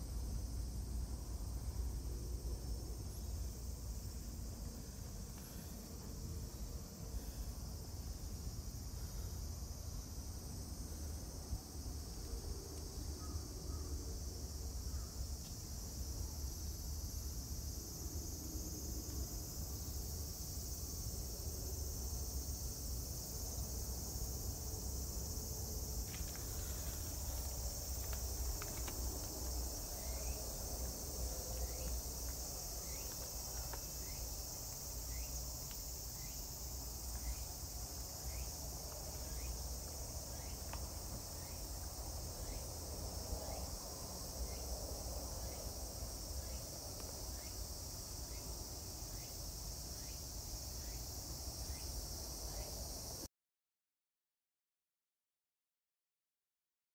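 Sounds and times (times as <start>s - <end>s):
insects droning: 0.0s - 53.3s.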